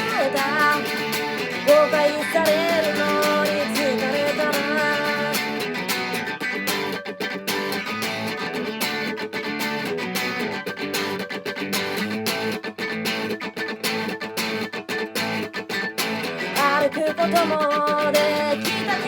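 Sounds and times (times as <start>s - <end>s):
guitar strumming: 0.0s - 19.0s.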